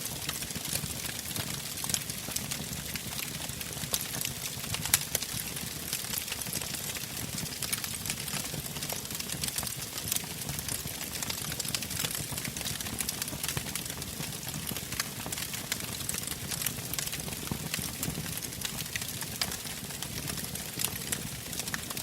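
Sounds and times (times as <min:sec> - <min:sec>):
low steady flames: 0:00.0 - 0:22.0
wood fire crackling and popping: 0:00.0 - 0:22.0.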